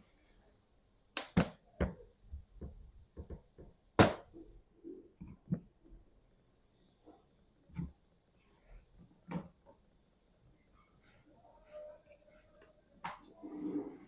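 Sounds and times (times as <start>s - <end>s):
faint hiss: 0.0s - 5.2s, 5.8s - 14.0s.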